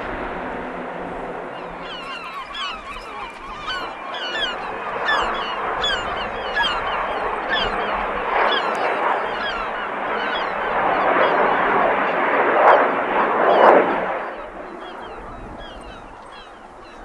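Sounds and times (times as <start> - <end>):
jet engines roaring overhead: 0.0 - 17.0
birds squawking: 1.5 - 12.4, 13.2 - 17.0.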